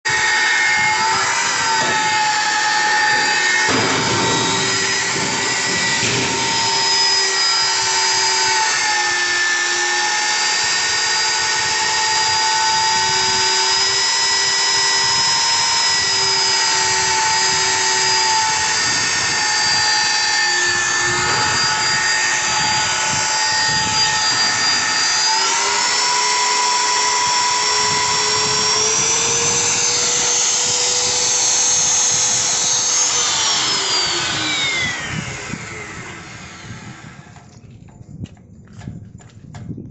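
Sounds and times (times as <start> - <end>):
power tool motor whining: 0.1 - 37.7.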